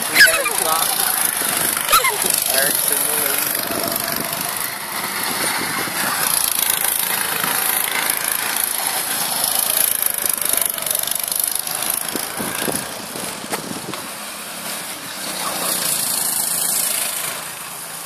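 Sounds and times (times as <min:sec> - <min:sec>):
go-kart engines running: 0:00.0 - 0:18.0.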